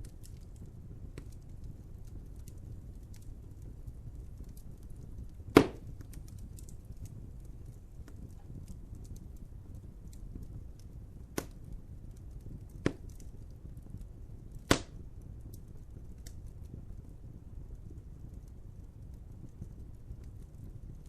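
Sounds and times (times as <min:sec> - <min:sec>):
sharp pops of burning wood: 0:00.0 - 0:16.9
wood fire crackling: 0:00.0 - 0:21.0.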